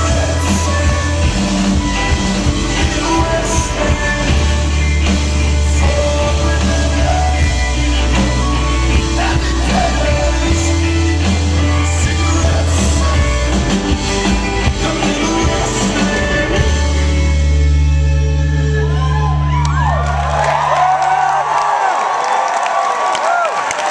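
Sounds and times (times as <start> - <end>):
person singing lead vocal: 0.0 - 19.6
electric guitar: 0.0 - 20.8
bass guitar: 0.0 - 21.3.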